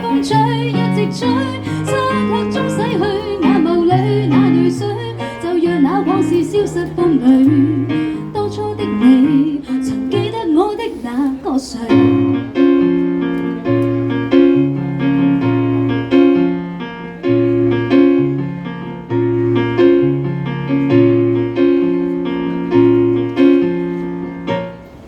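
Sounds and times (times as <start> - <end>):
electric keyboard piano chords: 0.0 - 25.0.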